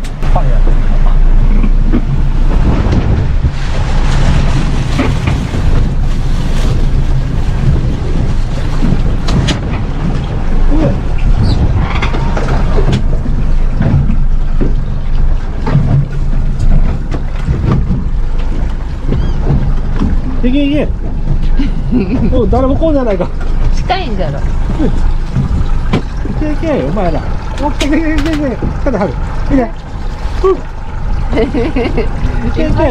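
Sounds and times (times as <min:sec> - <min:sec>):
wind on microphone: 0:00.0 - 0:15.0, 0:15.7 - 0:32.9
boat engine humming: 0:00.0 - 0:32.9
water noise: 0:00.0 - 0:32.9.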